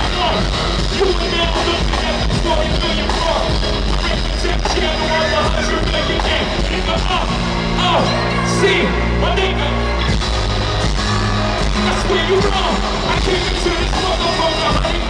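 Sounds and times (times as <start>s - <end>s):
rapper's amplified vocal: 0.0s - 10.2s, 11.4s - 15.0s
deep bass line: 0.0s - 15.0s.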